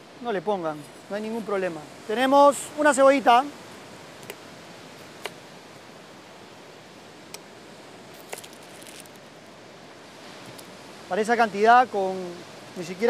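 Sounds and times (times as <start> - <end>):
surf hiss: 0.0 - 13.0.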